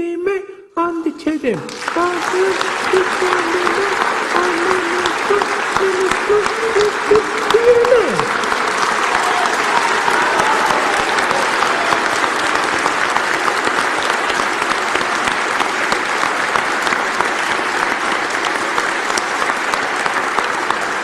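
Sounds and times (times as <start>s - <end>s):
audience applauding: 1.5s - 21.0s
single claps: 1.6s - 21.0s.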